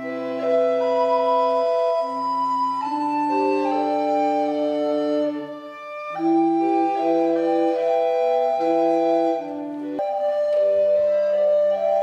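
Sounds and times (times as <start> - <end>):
recorders playing sustained chords: 0.0 - 12.0.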